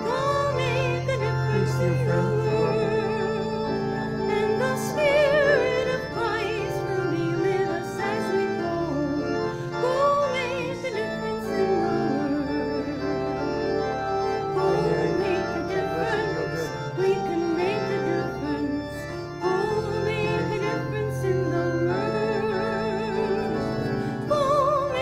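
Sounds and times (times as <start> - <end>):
person singing with vibrato: 0.0 - 13.6, 14.3 - 25.0
church organ playing a hymn: 0.0 - 25.0.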